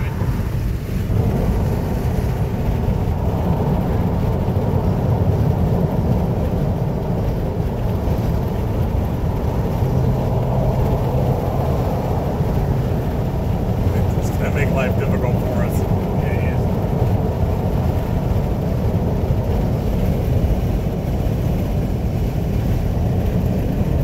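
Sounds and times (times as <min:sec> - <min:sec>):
road and tyre noise in car cabin: 0:00.0 - 0:24.0.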